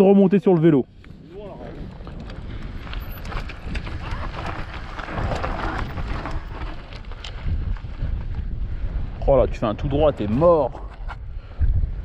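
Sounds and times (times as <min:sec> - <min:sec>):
wind rumbling on microphone: 0:00.8 - 0:12.0.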